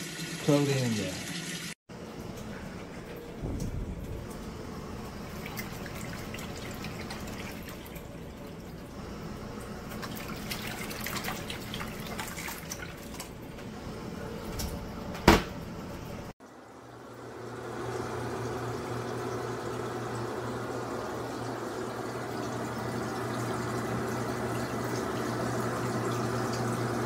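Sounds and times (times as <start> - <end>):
water splashing in washing machine: 0.0 - 27.0.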